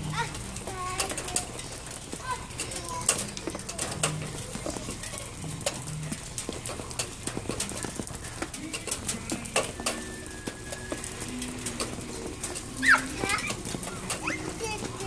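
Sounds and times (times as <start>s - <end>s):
rain falling: 0.0s - 15.0s
sharp taps of raindrops: 0.0s - 15.0s.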